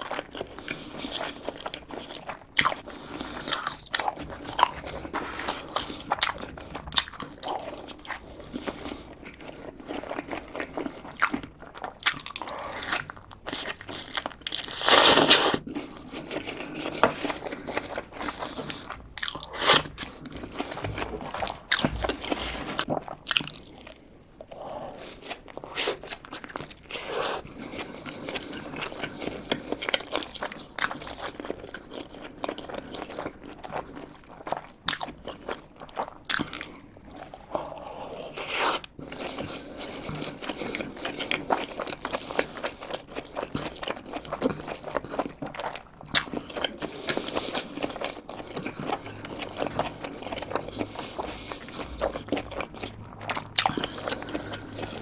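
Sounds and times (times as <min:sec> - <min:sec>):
person chewing a burger: 0:00.0 - 0:55.0.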